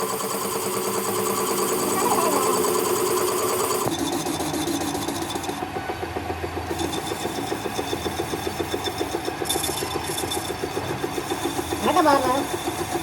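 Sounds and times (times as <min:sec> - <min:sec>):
workshop machine rasping: 0:00.0 - 0:13.0.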